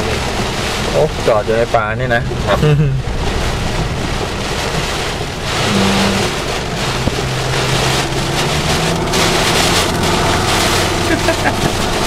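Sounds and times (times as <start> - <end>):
car engine hum: 0.0 - 12.0
rain hiss and wet road noise: 0.0 - 12.0.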